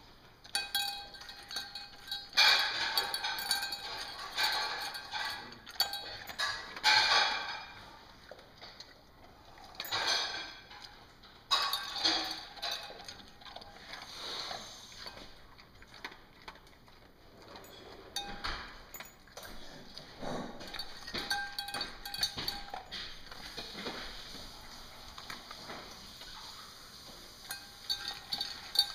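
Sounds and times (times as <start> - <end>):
dog eating noisily: 0.0 - 28.9
metal bowl clinking: 0.4 - 7.9, 9.7 - 14.3, 17.4 - 28.9.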